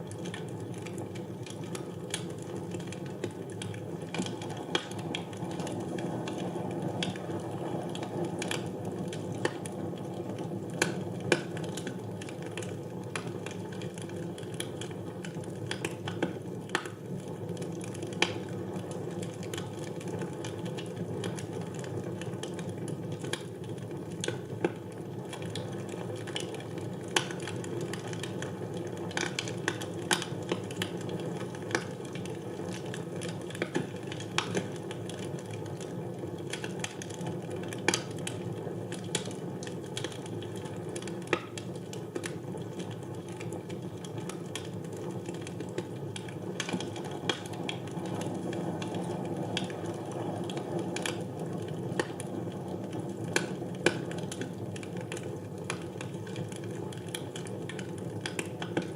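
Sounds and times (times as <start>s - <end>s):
fire roaring: 0.0s - 58.9s
logs crackling and popping: 0.0s - 58.9s.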